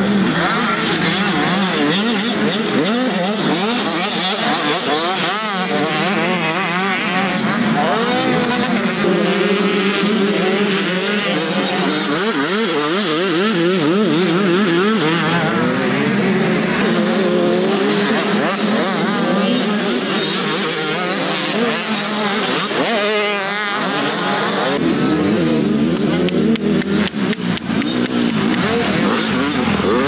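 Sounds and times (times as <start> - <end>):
motocross engines revving: 0.0 - 30.0.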